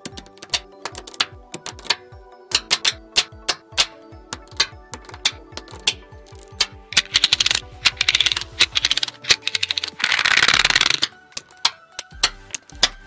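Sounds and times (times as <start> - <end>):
magnetic balls clicking: 0.0 - 13.0.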